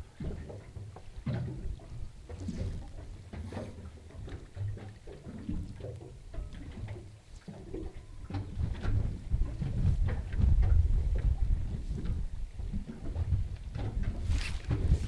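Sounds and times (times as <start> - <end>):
water lapping against boat hull: 0.0 - 15.0
wind rumbling on microphone: 0.0 - 15.0.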